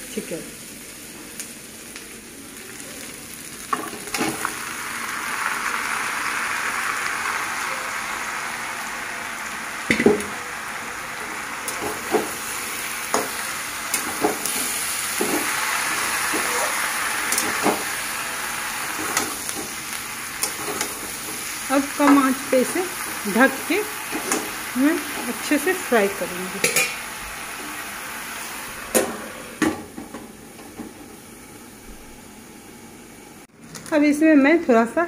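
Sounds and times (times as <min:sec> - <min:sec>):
chicken sizzling in hot oil: 0:00.0 - 0:33.5.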